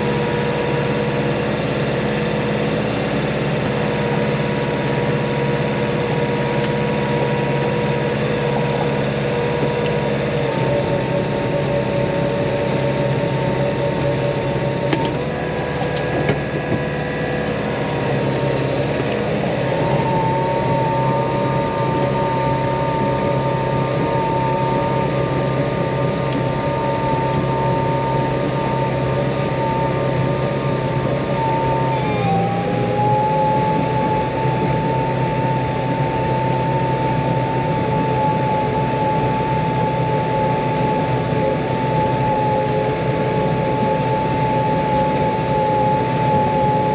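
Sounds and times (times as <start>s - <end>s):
high whine: 0.0s - 46.9s
tractor engine running: 0.0s - 46.9s.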